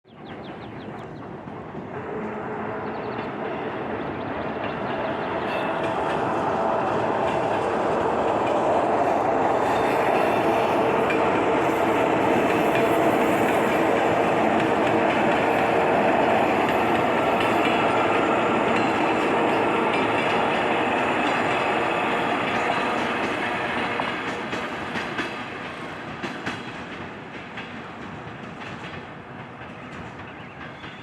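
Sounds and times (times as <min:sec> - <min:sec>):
train wheel-on-rail rumble: 0:00.1 - 0:31.0
train wheels clicking: 0:00.1 - 0:31.0.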